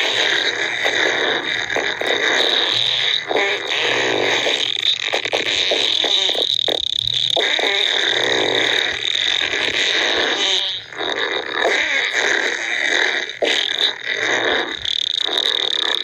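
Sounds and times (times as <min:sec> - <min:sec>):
fart noises: 0:00.0 - 0:16.0.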